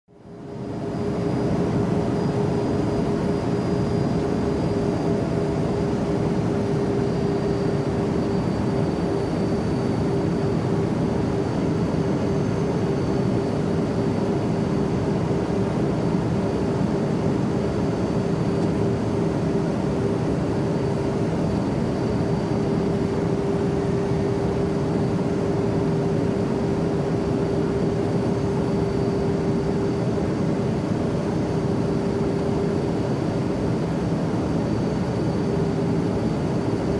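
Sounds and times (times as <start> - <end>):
airplane cabin drone: 0.1 - 36.9.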